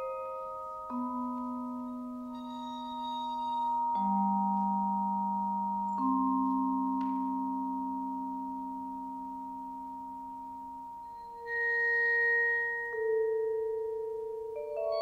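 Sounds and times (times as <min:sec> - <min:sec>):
vibraphone notes: 0:00.0 - 0:15.0.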